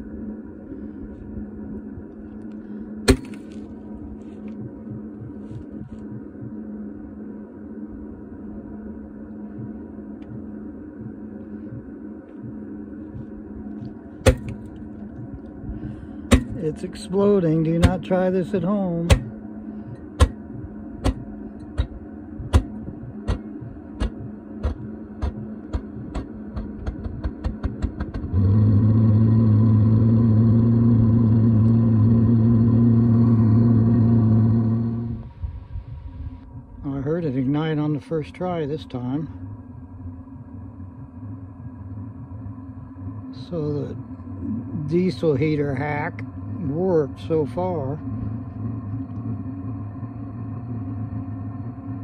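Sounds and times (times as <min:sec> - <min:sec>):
air heater humming: 0:00.0 - 0:52.0.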